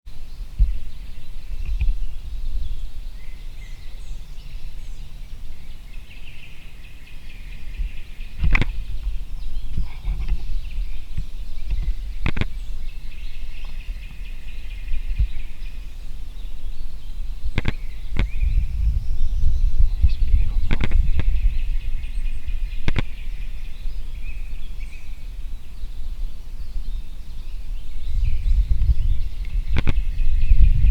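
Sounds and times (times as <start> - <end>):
birds chirping faintly: 0.1 - 30.9
low rumble: 0.3 - 30.9.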